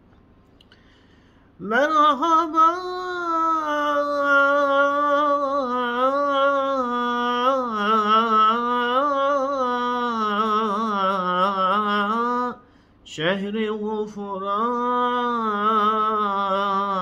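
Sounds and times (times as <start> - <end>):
man singing unaccompanied: 1.6 - 17.0.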